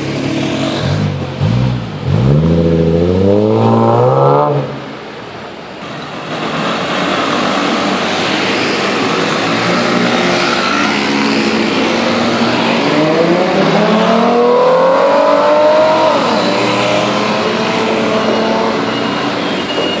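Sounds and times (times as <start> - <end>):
car engine and exhaust: 0.0 - 5.8, 6.8 - 19.9.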